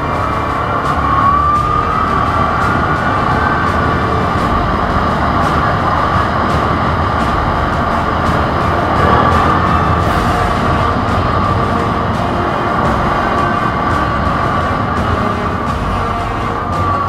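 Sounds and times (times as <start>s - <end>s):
engine whine: 0.0s - 17.0s
quad bike engine running: 0.0s - 17.0s
wind noise: 0.0s - 17.0s.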